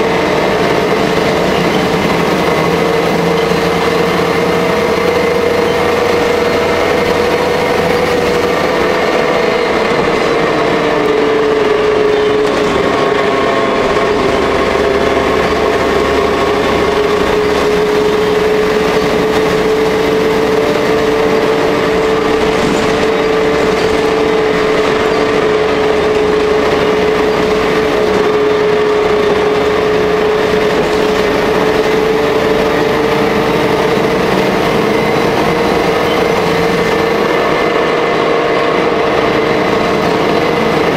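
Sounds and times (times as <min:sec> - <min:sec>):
bus engine rumble with whine: 0:00.0 - 0:40.9.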